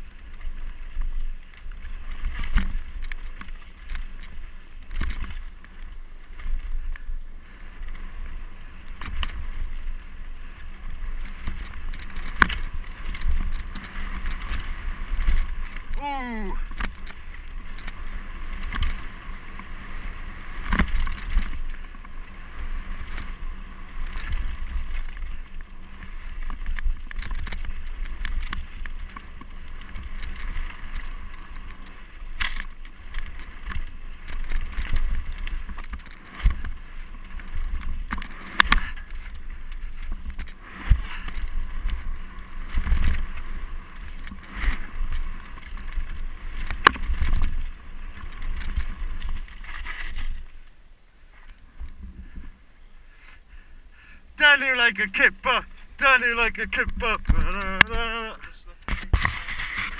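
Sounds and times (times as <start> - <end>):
wind rumble on microphone: 0.0 - 50.9
bike rattling: 0.0 - 59.9
bike tyres rolling over gravel: 0.0 - 59.9.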